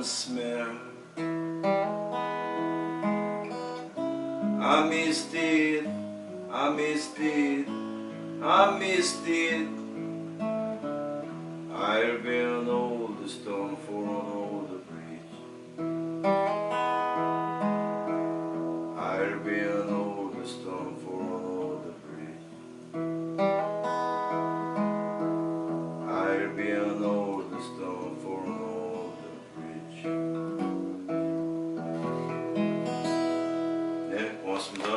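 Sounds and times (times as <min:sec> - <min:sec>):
acoustic guitar strumming chords: 0:00.0 - 0:34.9.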